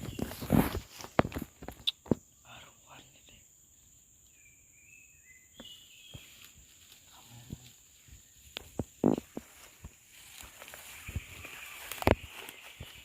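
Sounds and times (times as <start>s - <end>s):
quiet forest background: 0.0s - 13.0s.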